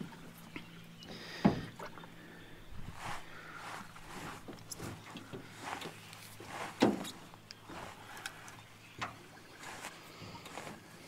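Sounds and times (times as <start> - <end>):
rustles: 1.8 - 11.0.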